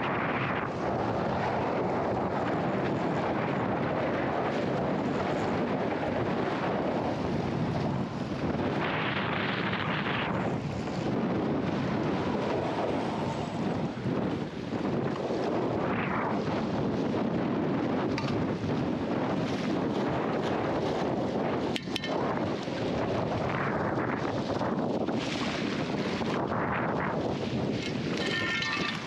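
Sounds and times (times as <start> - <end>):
choppy sea water: 0.0 - 29.0
wind buffeting microphone: 0.0 - 29.0.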